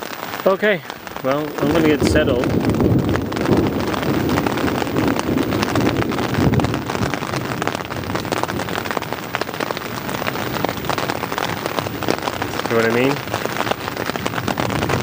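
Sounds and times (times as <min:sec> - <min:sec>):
rain on a tent: 0:00.0 - 0:15.0
low rumbling: 0:00.9 - 0:09.2, 0:09.8 - 0:15.0.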